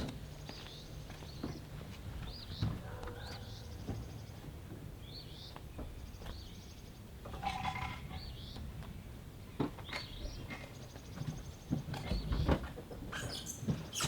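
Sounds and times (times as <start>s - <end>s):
songbird singing: 0.0s - 12.5s, 13.1s - 14.0s.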